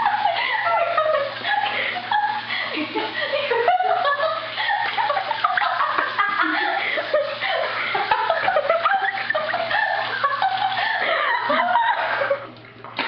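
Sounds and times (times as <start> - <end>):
people laughing in squawky bursts: 0.0 - 12.6.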